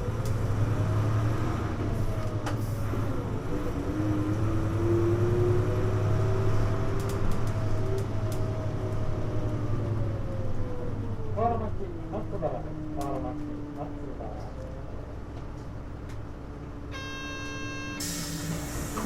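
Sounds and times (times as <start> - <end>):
bus engine drone with whine: 0.0 - 19.0.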